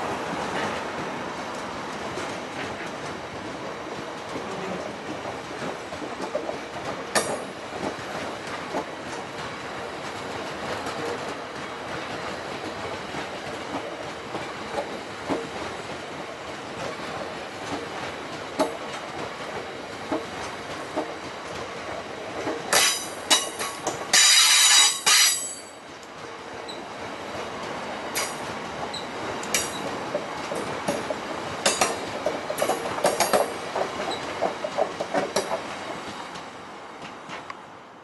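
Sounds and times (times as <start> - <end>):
train rumble: 0.0 - 38.0
train wheels clicking over joints: 0.3 - 37.6.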